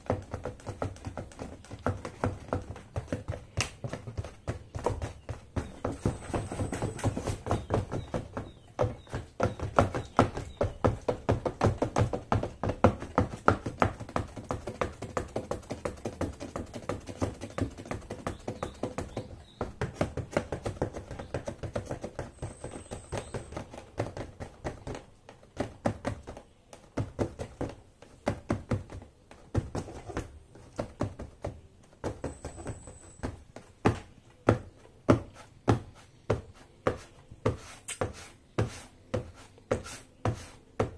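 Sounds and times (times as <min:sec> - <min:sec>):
high heels tapping on cardboard: 0:00.0 - 0:40.9.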